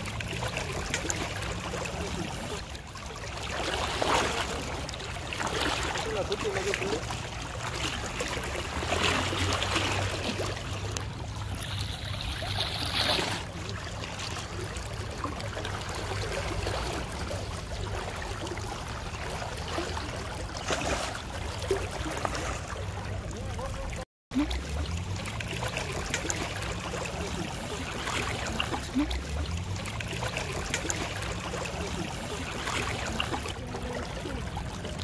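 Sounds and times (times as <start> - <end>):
river water rippling: 0.0 - 35.0.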